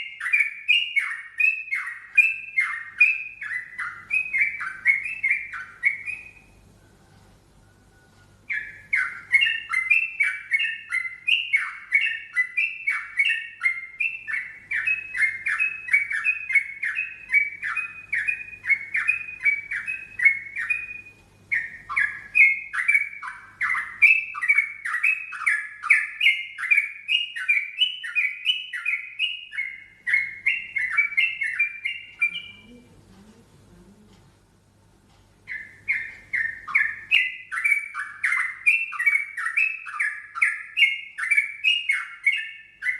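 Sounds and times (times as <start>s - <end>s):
bulbul singing: 0.0s - 42.9s.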